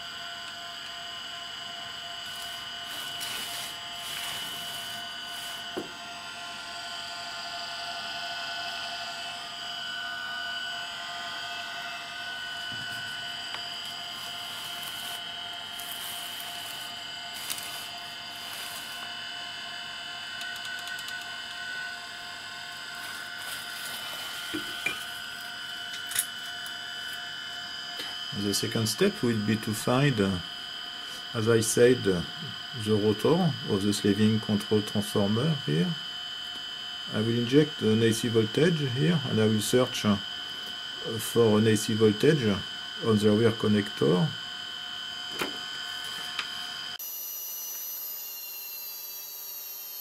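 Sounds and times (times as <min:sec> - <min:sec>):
gyro rotor high whine: 0:00.0 - 0:50.0.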